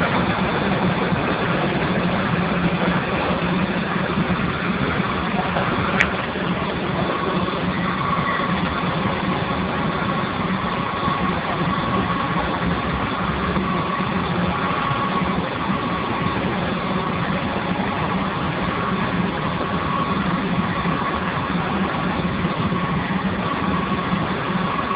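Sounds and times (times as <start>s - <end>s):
low hum: 0.0s - 24.9s
steam boiler rushing noise: 0.0s - 24.9s.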